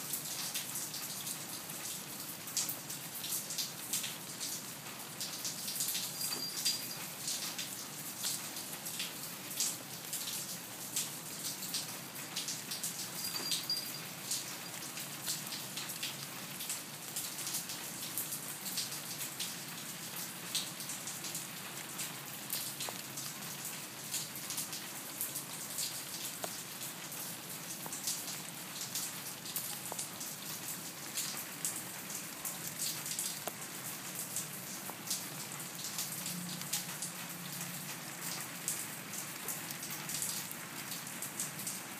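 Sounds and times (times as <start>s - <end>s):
steady rain pattering: 0.0s - 41.9s.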